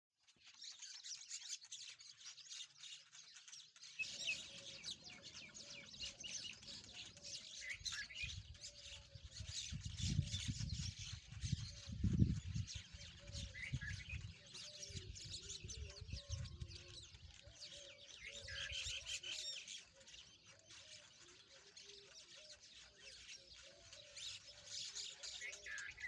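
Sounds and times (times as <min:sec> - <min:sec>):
lovebirds chirping: 0:00.4 - 0:26.0.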